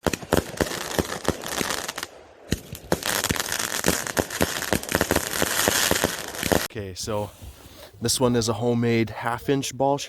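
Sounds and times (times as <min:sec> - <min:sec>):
fireworks crackling: 0:00.0 - 0:08.5.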